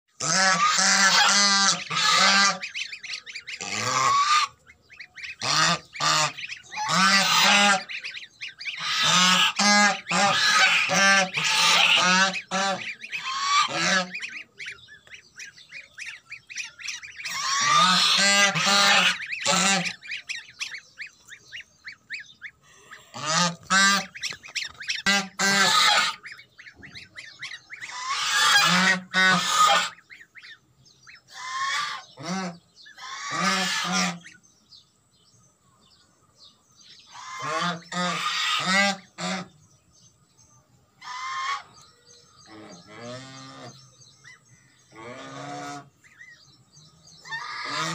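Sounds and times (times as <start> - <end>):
geese honking: 0.1 - 34.4, 37.1 - 39.6, 41.0 - 41.8, 42.4 - 46.4, 47.2 - 47.9.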